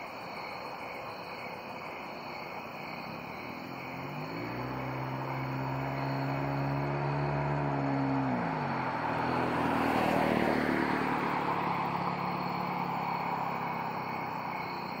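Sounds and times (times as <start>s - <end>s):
crickets singing: 0.0s - 15.0s
car passing by: 2.9s - 15.0s.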